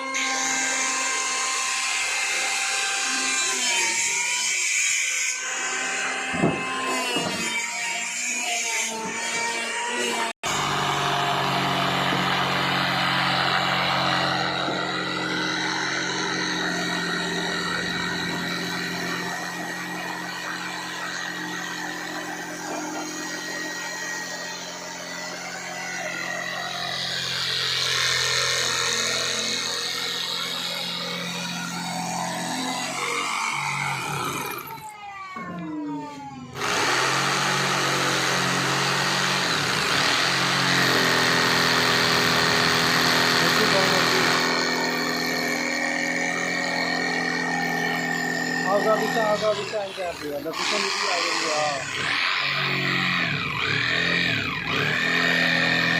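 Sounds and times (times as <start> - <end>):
machine motor hum: 10.5 - 55.9.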